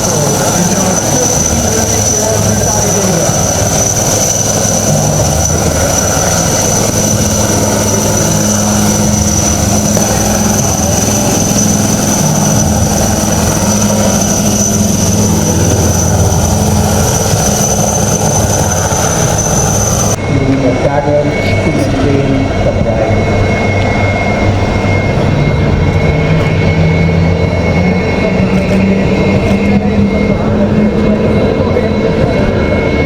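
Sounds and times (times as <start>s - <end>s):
helicopter rotor beat: 0.0s - 33.0s
helicopter turbine whine: 0.0s - 33.0s.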